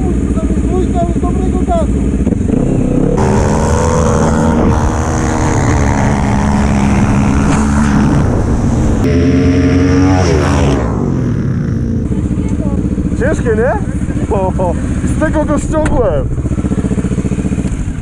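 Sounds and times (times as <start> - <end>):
quad engines at full throttle: 0.0 - 18.0.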